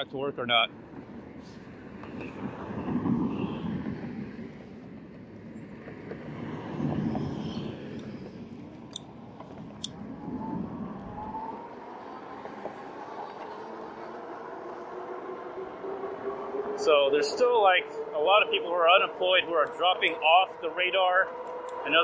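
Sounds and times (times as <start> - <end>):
wind rumbling on microphone: 0.7 - 19.5.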